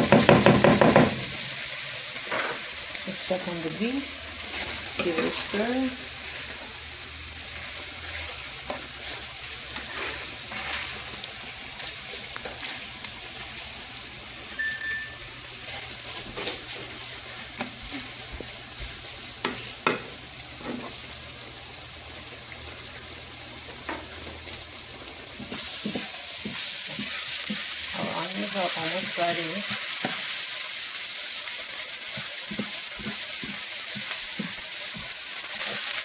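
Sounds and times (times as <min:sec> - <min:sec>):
beef sizzling in oil: 0:00.0 - 0:36.0.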